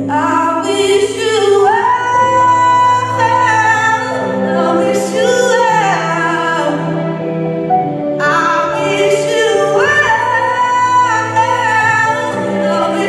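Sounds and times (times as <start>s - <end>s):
slow song with layered vocals: 0.0s - 13.0s.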